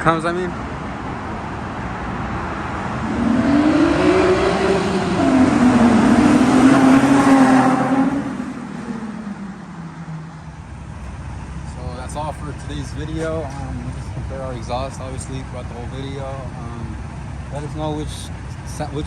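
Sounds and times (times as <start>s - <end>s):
car exhaust driving past: 0.8s - 17.6s.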